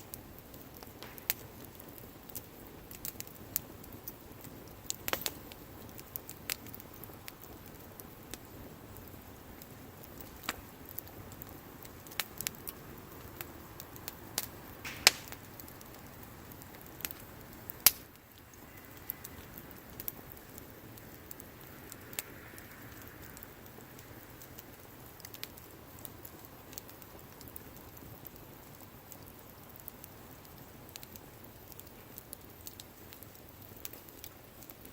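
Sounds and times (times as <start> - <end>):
sharp pops and snaps: 0.0 - 34.9
soft hiss: 0.0 - 34.9
wood bonfire crackling: 0.0 - 34.9.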